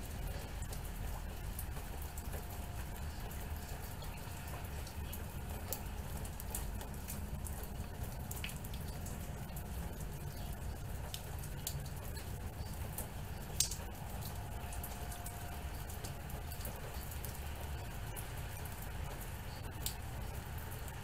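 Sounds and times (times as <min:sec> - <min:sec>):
drops pattering and dripping: 0:00.0 - 0:21.0
rain falling: 0:00.0 - 0:21.0.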